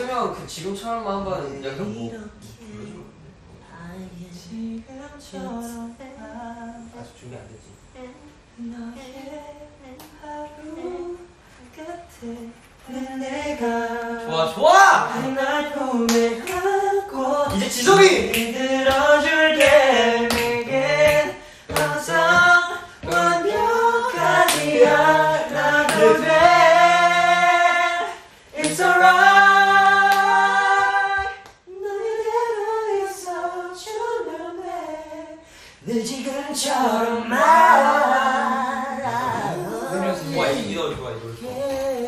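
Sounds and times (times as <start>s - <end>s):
young men singing a cappella: 0.0s - 7.3s, 8.0s - 42.0s.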